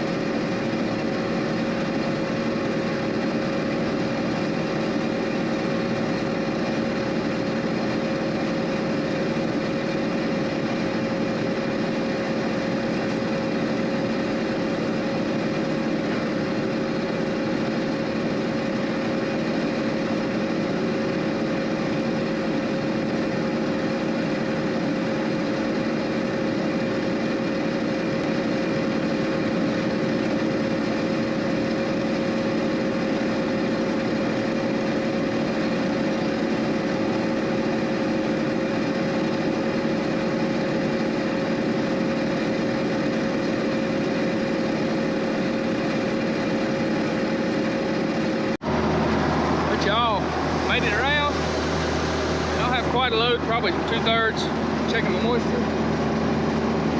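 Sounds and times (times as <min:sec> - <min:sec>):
combine harvester engine drone: 0:00.0 - 0:56.9.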